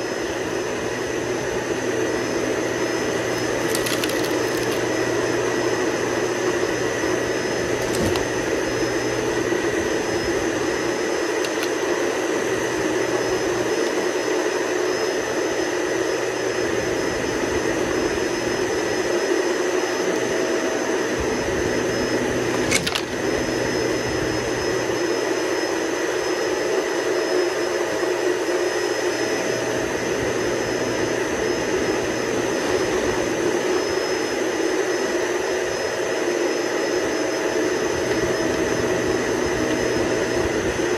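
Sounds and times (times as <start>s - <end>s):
vacuum cleaner on carpet: 0.0s - 40.9s.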